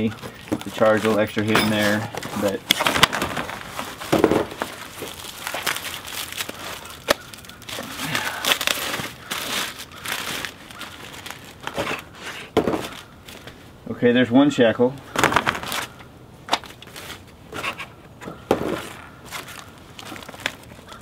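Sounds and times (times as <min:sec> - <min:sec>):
packaging crinkling: 0:00.1 - 0:13.6, 0:15.1 - 0:17.4, 0:18.7 - 0:21.0.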